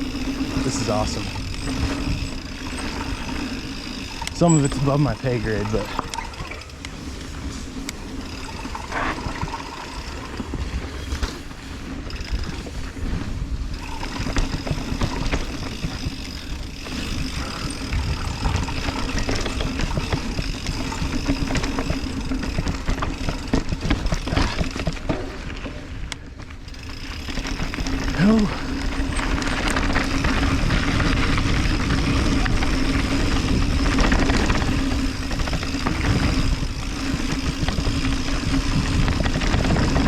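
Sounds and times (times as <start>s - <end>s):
bike rattling and clicking: 0.0s - 40.0s
tyres rolling on dirt: 0.0s - 40.0s.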